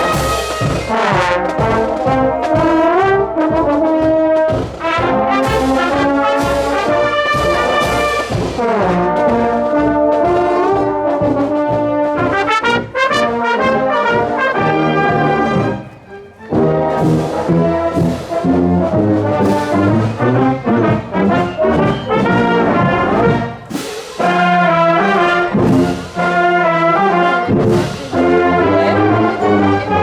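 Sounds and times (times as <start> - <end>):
marching drum beat: 0.0 - 15.8, 16.5 - 30.0
brass instruments melody: 0.0 - 30.0.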